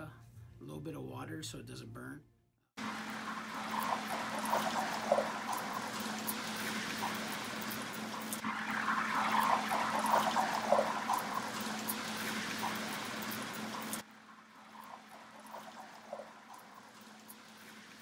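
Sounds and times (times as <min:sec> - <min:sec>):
fish sizzling in hot oil: 0:02.8 - 0:18.0
steady low hum: 0:02.8 - 0:18.0.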